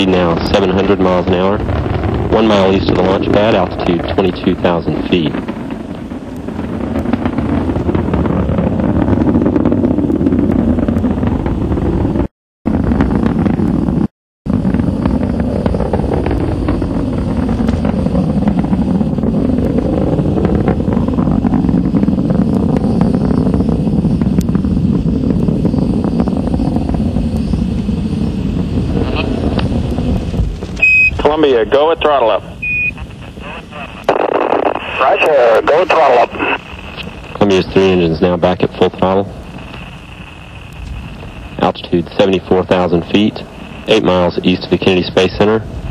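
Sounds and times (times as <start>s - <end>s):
deep crackling rocket roar: 0.0s - 45.9s.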